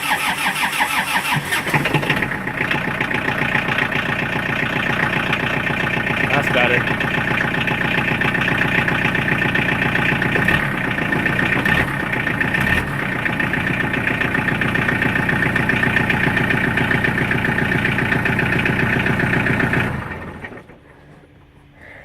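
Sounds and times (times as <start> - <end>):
engine idling with pulsing exhaust: 1.4 - 22.0.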